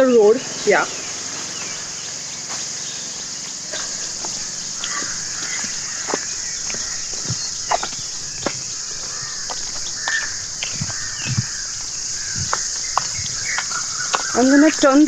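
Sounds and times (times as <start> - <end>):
bird chirps: 0.0 - 15.0
insects droning: 0.0 - 15.0
footsteps on trail: 0.4 - 15.0.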